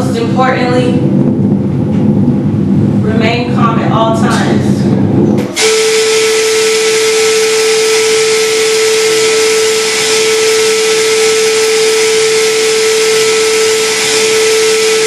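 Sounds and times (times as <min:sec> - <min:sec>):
steady tone: 0:00.0 - 0:15.0.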